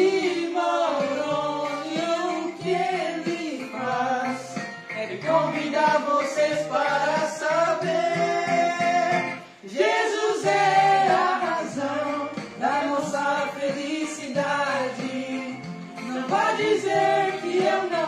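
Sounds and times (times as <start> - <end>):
men singing without instruments: 0.0 - 18.0.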